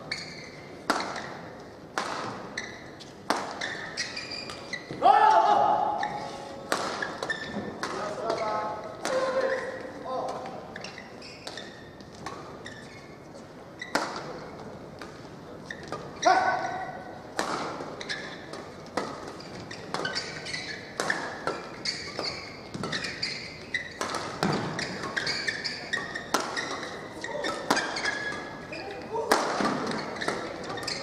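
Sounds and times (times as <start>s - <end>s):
shoes squeaking on court: 0.0s - 5.0s, 6.0s - 31.0s
rackets hitting shuttlecock: 0.8s - 5.0s, 6.0s - 10.5s, 13.9s - 31.0s.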